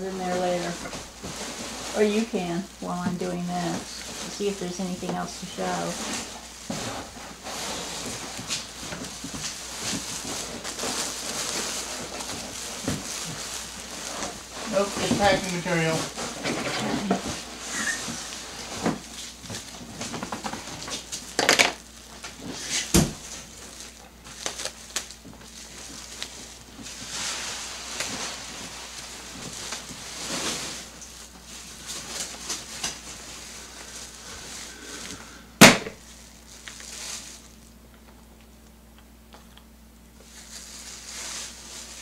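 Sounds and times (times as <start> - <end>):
plastic wrapping crinkling: 0.0 - 42.0.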